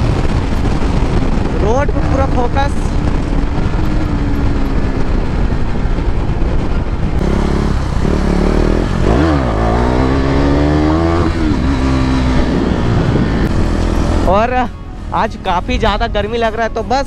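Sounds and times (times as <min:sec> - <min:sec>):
motorcycle engine revving: 0:00.0 - 0:14.8
wind rush on microphone: 0:00.0 - 0:16.8.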